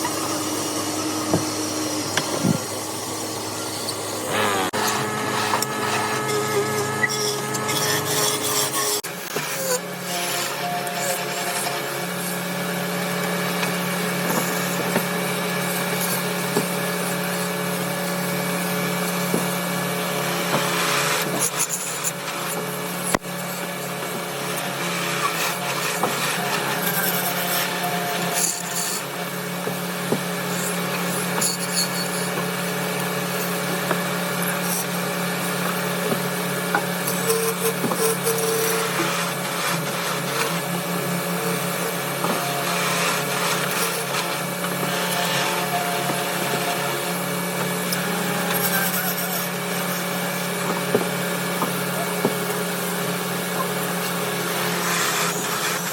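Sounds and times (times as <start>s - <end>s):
lathe motor hum: 0.0s - 31.4s, 32.0s - 55.9s
turning tool scraping wood: 0.0s - 55.9s.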